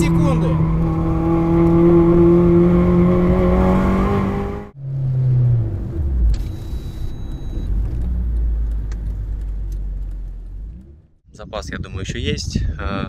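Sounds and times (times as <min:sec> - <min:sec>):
car engine at high revs: 0:00.0 - 0:11.1.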